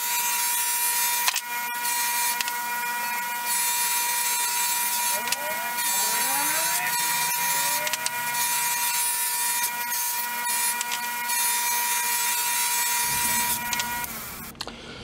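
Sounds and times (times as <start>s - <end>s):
bench grinder motor whine: 0.0s - 14.7s.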